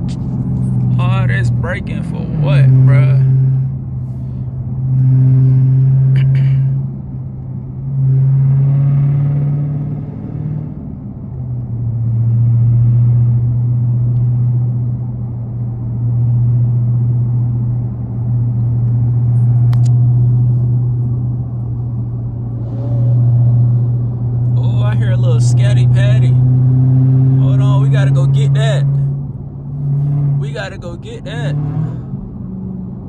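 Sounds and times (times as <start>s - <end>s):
car engine low drone: 0.0s - 33.0s.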